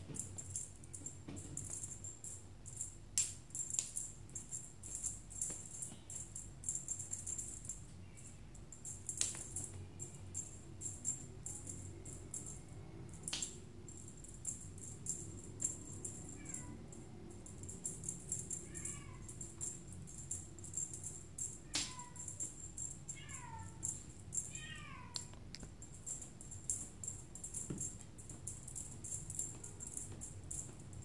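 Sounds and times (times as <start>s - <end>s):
jingle bells shaking: 0.0s - 24.6s, 25.8s - 31.0s.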